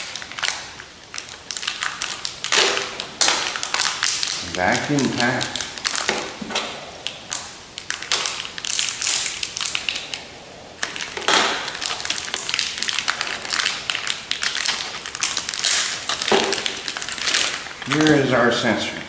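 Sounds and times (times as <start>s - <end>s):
foil bag crinkling: 0.0s - 18.7s.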